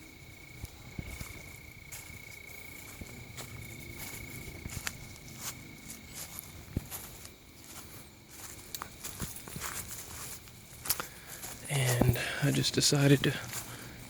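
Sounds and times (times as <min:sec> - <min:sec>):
cricket trilling: 0:00.0 - 0:14.0
footsteps on grass: 0:00.0 - 0:14.0.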